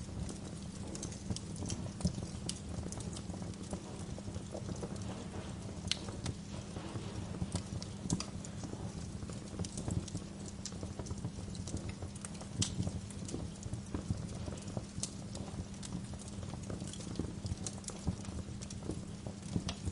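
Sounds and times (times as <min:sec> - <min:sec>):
bonfire crackling and popping: 0:00.0 - 0:19.9
low rumble of burning: 0:00.0 - 0:19.9.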